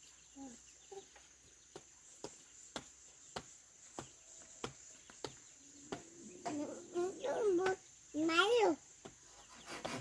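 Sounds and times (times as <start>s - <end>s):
high insect drone: 0.1s - 10.0s.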